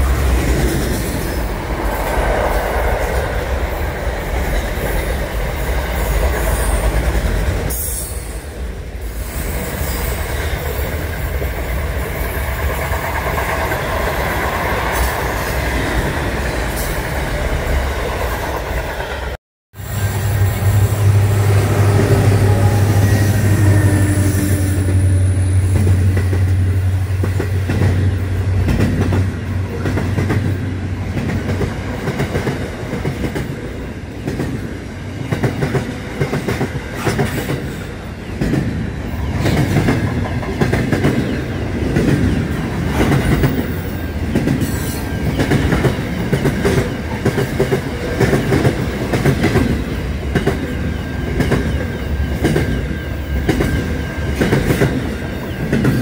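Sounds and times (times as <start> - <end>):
wheels clacking on rails: 0.0 - 8.3, 9.4 - 19.4, 20.0 - 56.0
diesel locomotive engine drone: 0.0 - 56.0.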